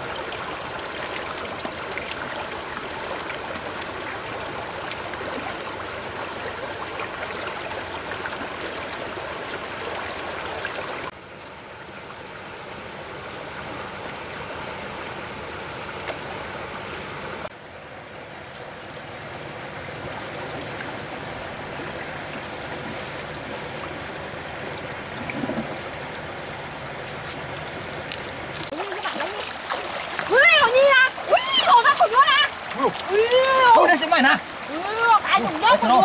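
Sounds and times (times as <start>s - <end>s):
creek water running over stones: 0.0s - 36.0s.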